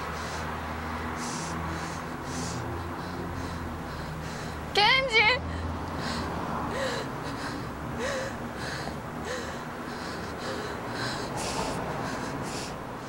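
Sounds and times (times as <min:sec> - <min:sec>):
gasping breaths: 0:00.0 - 0:04.7, 0:05.4 - 0:13.0.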